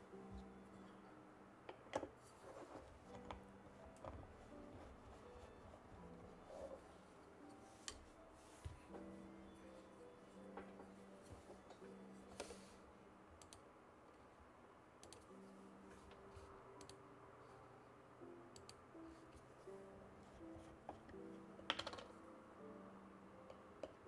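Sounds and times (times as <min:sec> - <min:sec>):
background music of held notes: 0:00.0 - 0:13.2, 0:15.3 - 0:24.0.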